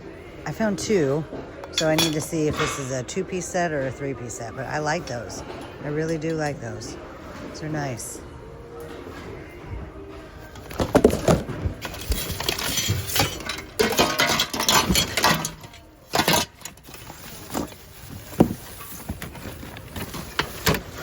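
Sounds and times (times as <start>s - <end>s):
items clattering and rustling: 0.5s - 21.0s.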